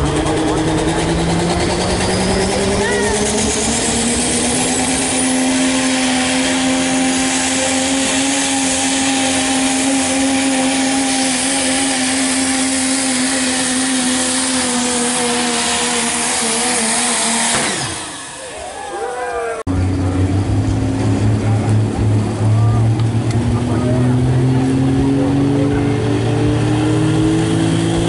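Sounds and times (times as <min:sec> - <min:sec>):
diesel truck engine high-revving: 0:00.0 - 0:18.7, 0:19.6 - 0:28.0.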